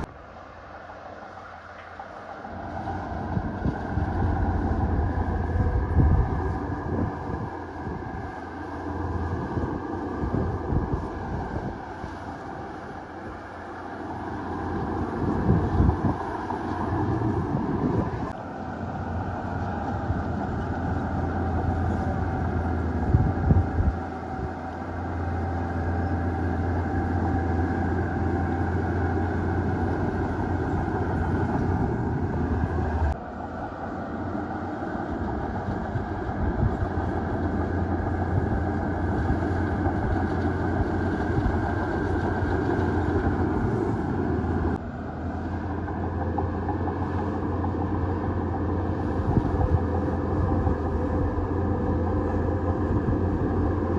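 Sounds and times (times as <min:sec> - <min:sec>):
heavy diesel machinery running: 0:00.0 - 0:53.9.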